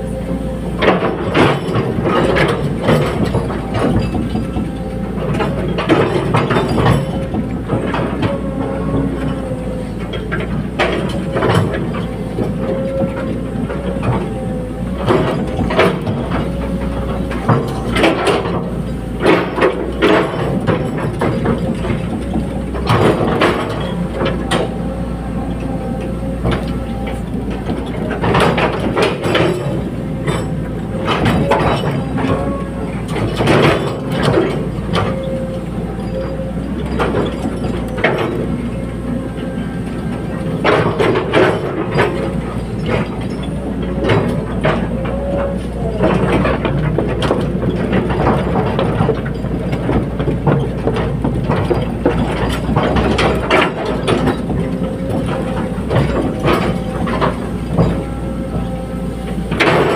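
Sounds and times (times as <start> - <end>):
diesel engine humming: 0.0 - 59.9
metal clanks and creaks: 0.0 - 59.9.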